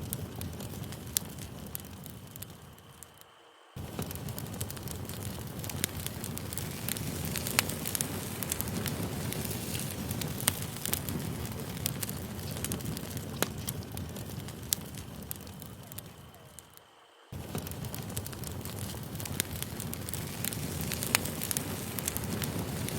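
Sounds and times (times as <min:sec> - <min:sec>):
campfire flames rumbling: 0:00.0 - 0:22.9
wood crackling and popping: 0:00.0 - 0:22.9.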